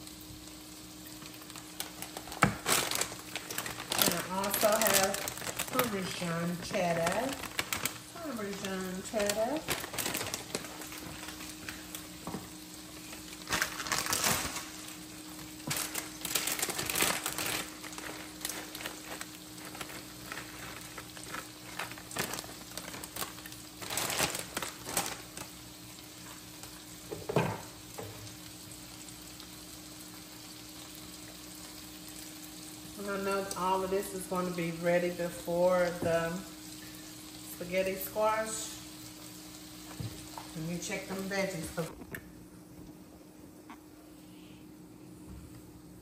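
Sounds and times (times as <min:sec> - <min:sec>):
sauce sizzling in a skillet: 0:00.0 - 0:41.9
low steady hum: 0:00.0 - 0:46.0.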